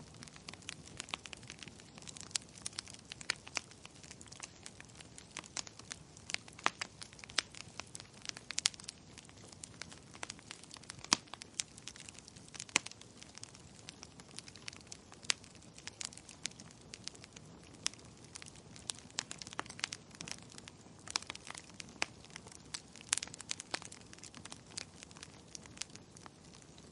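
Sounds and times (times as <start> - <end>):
soft steady hiss: 0.0 - 26.9
wood fire crackling: 0.0 - 26.9.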